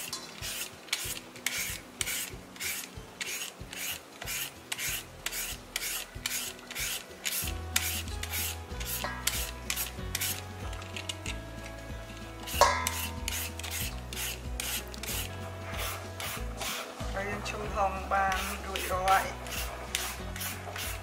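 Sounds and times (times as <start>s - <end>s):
peeler rasping strips off papaya: 0.0s - 11.2s, 12.4s - 17.2s, 18.3s - 21.0s.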